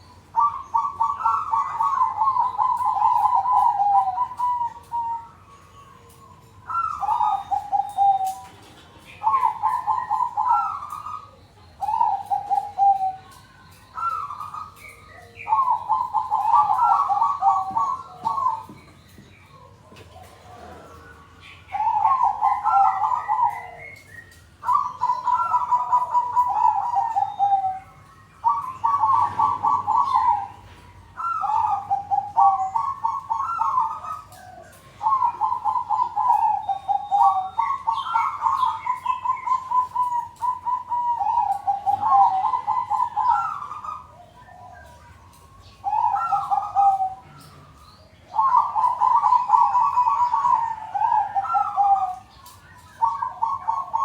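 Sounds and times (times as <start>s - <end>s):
doves trilled cooing: 0.0s - 54.0s.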